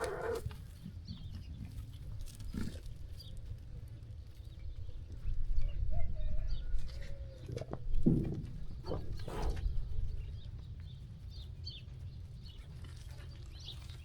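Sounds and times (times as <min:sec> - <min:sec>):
sheep moving and grazing: 0:00.0 - 0:14.0.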